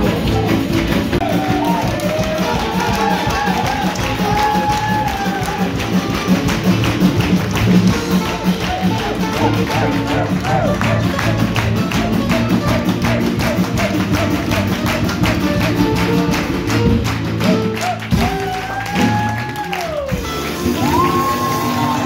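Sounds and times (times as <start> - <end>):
swing band playing: 0.0 - 22.0.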